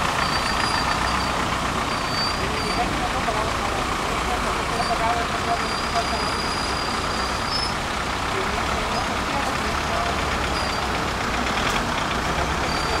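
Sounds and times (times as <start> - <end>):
cars passing on wet cobblestones: 0.0 - 13.0
low engine rumble: 0.0 - 13.0.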